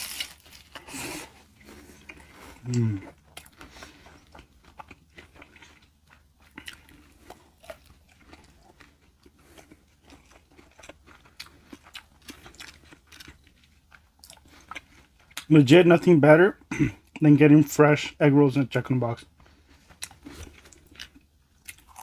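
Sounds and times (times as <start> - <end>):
chewing and crunching: 0.0 - 16.1, 19.2 - 22.0.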